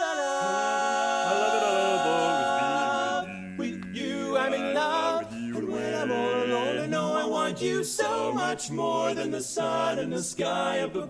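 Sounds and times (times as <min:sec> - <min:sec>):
men singing in close harmony: 0:00.0 - 0:11.0.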